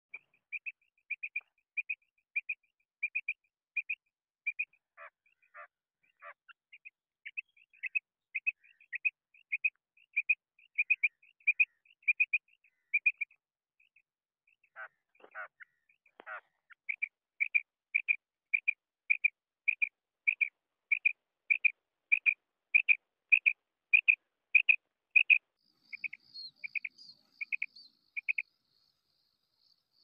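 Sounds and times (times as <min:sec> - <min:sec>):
lower rough quail calls: 0:00.0 - 0:13.9, 0:14.5 - 0:28.5.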